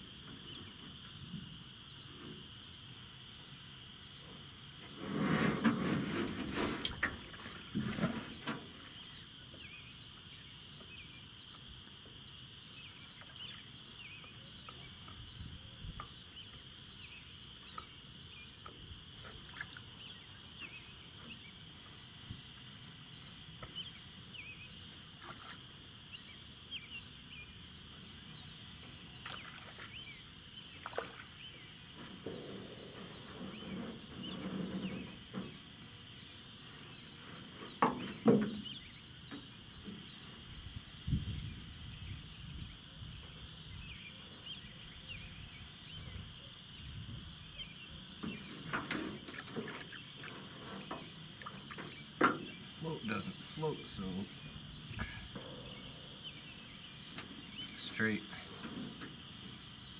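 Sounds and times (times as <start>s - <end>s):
animals chirping in chorus: 10.0s - 59.9s.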